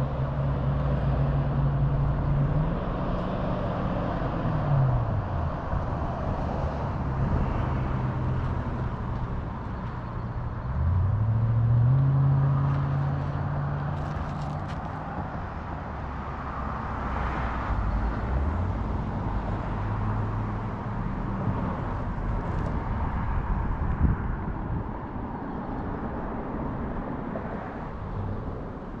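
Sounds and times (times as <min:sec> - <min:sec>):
vehicle engine hum: 0:00.0 - 0:29.0.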